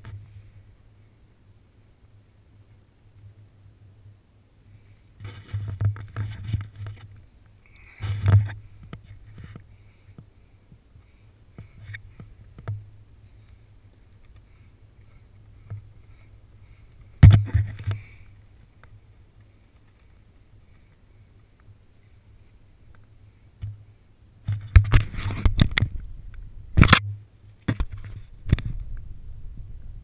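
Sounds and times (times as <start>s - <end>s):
faint low rumble: 0.0s - 30.0s.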